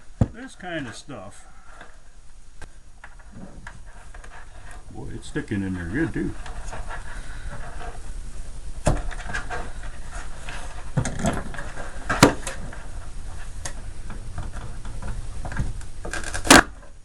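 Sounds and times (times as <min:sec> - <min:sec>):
scraping: 0:00.2 - 0:16.9.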